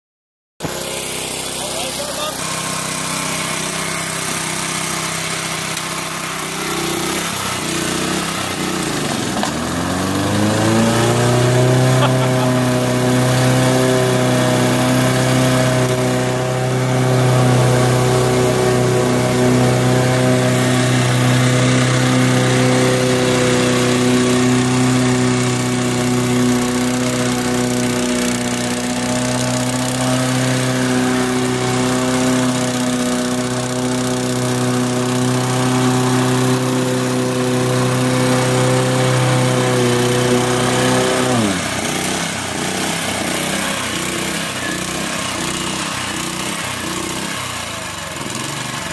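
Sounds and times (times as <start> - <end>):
small lawn mower engine running: 0.6 - 48.9.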